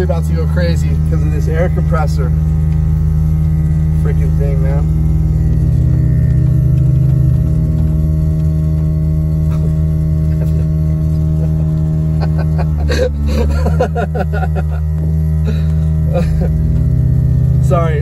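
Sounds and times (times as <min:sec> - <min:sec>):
air compressor humming: 0:00.0 - 0:18.0.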